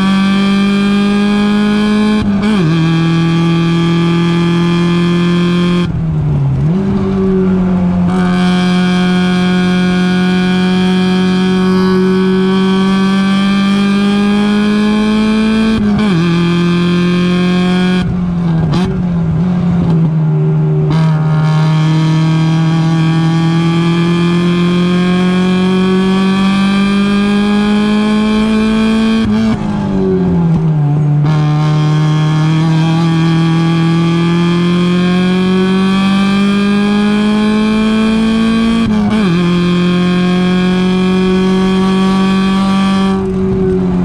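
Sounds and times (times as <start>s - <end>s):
race car engine revving: 0.0s - 44.0s.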